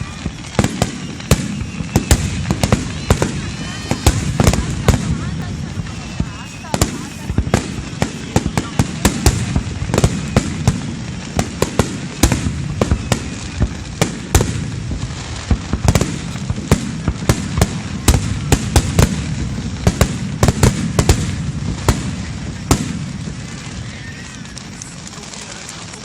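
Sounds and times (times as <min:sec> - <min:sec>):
fireworks cracks and bangs: 0:00.0 - 0:26.0.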